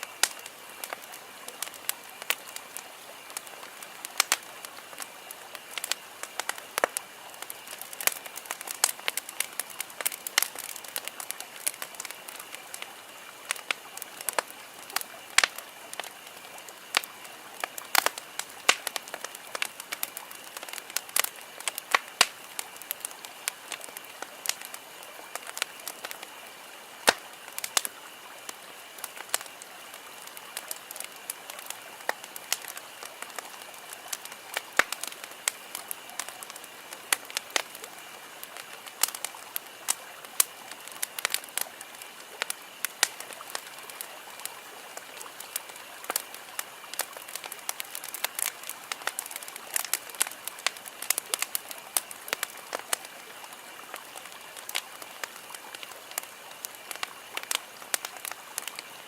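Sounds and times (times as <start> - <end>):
campfire crackling and popping: 0.0 - 59.0
steady low hiss: 0.0 - 59.0.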